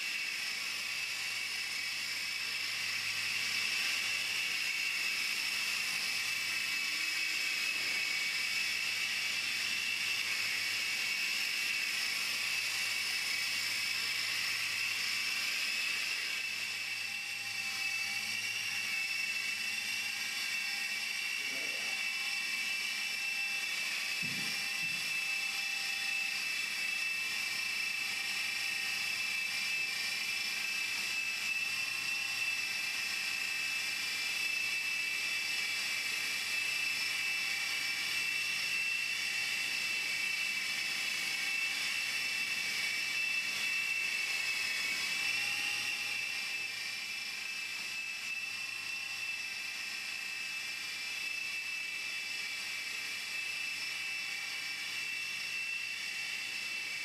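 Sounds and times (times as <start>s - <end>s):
model helicopter whine: 0.0s - 57.0s.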